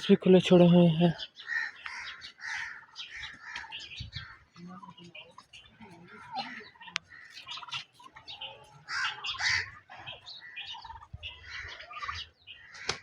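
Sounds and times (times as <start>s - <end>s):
turkeys calling: 0.0s - 13.0s.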